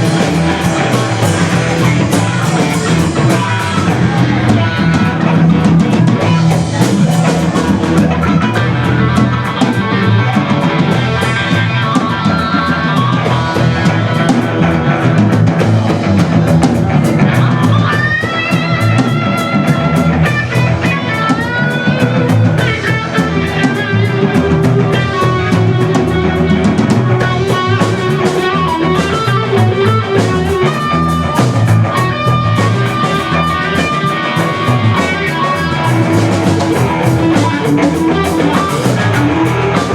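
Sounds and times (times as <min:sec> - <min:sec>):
bass guitar: 0:00.0 - 0:39.9
drums: 0:00.0 - 0:39.9
electric guitar lead: 0:00.0 - 0:39.9.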